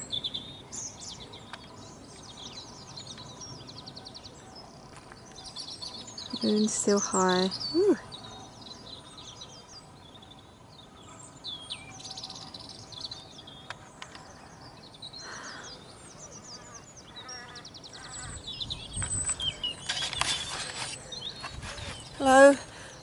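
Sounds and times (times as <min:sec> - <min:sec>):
birds singing and calling: 0:00.0 - 0:23.0.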